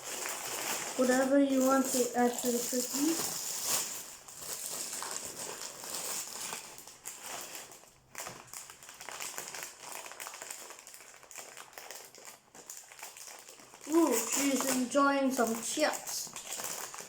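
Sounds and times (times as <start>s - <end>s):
snack packet crinkling: 0.0s - 17.0s.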